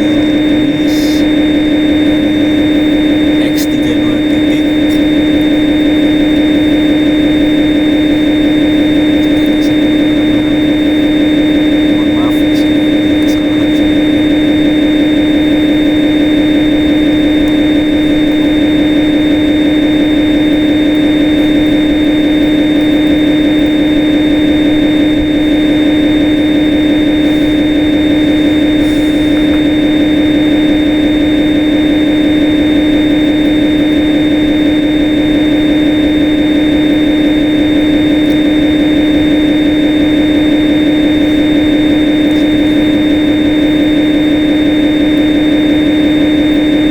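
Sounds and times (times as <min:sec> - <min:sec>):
lathe spindle hum: 0:00.0 - 0:46.9.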